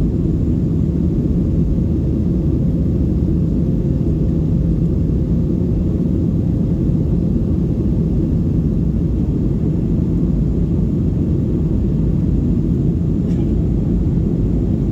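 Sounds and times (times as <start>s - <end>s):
jet engine cabin rumble: 0.0s - 14.9s.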